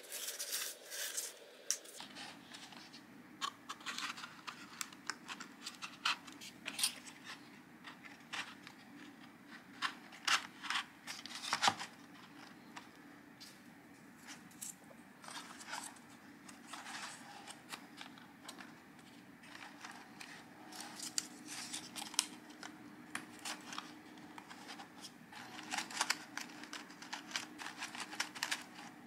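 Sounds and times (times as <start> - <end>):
card scratching and rustling: 0.0 - 12.8, 15.2 - 29.0.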